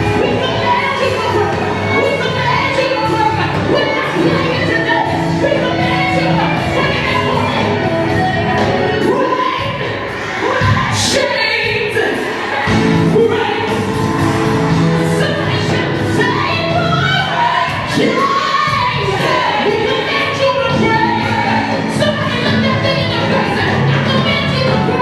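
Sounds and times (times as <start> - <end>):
band playing: 0.0 - 10.9, 12.6 - 25.0
group singing worship music: 0.0 - 25.0.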